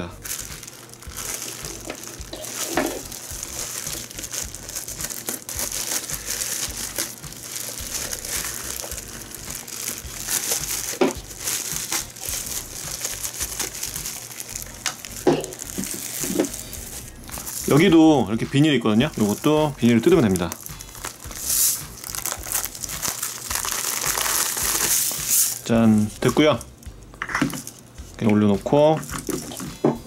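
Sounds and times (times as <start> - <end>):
plastic bag crinkling: 0.0 - 27.9, 29.0 - 29.8
handling noises: 0.0 - 30.0.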